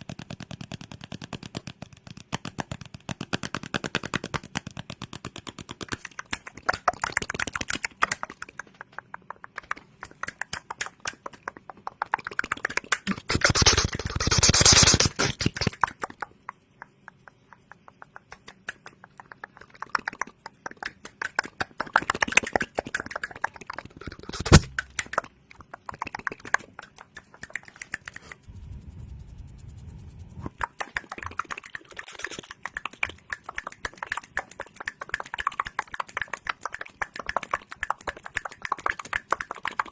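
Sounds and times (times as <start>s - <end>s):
mouth clicks and taps: 0.0s - 28.5s, 30.3s - 39.9s.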